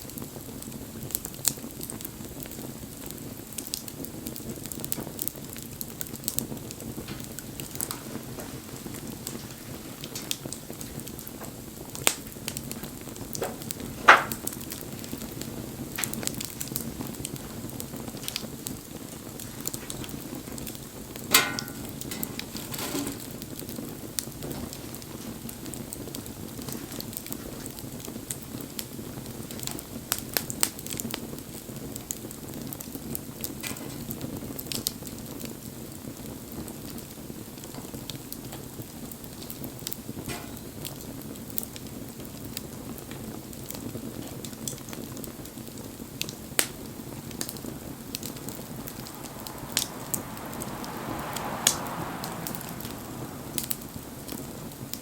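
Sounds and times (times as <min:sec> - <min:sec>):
bonfire crackling: 0:00.0 - 0:55.0
loud fire pops: 0:00.0 - 0:55.0.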